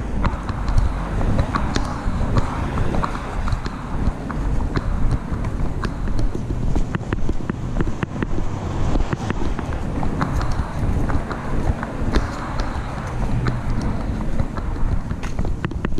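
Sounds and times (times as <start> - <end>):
footsteps on concrete: 0.0 - 15.9
wind rumble on microphone: 0.0 - 15.9.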